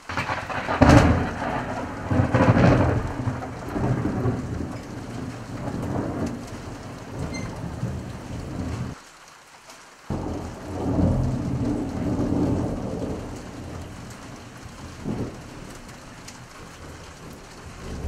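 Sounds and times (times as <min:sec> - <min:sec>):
thunder clap: 0:00.0 - 0:09.0, 0:10.1 - 0:18.0
thunder rumbling: 0:00.0 - 0:09.0, 0:10.1 - 0:18.0
steady rain: 0:00.0 - 0:18.0.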